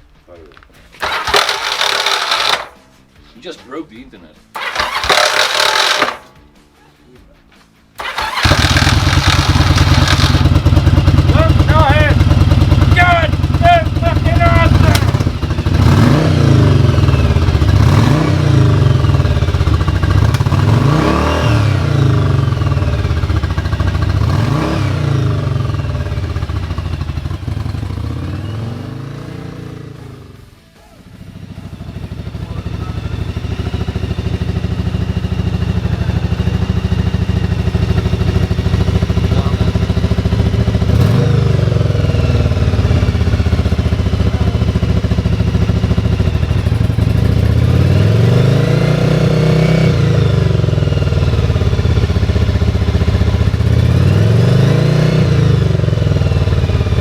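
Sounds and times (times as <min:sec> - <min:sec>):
motorcycle engine revving: 0:01.0 - 0:03.0, 0:04.6 - 0:06.4, 0:08.0 - 0:57.0.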